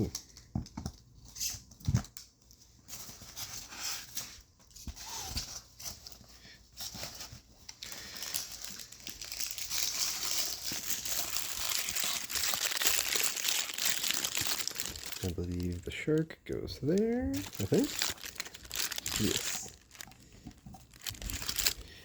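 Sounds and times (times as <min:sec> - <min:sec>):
packaging wrap crinkling: 0:01.4 - 0:22.0.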